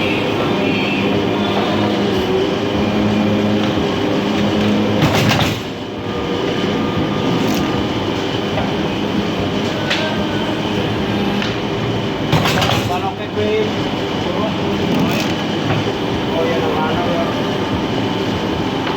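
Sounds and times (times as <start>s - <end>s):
machine rumble and clatter: 0.0s - 18.9s.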